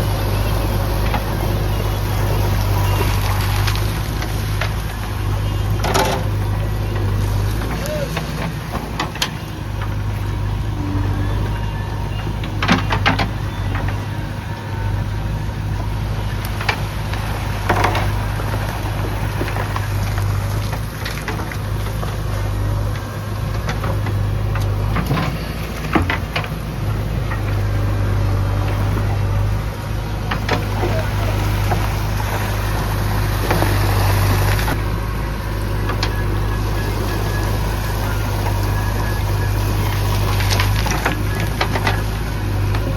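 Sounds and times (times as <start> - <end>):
heavy machinery engine humming: 0.0 - 42.9.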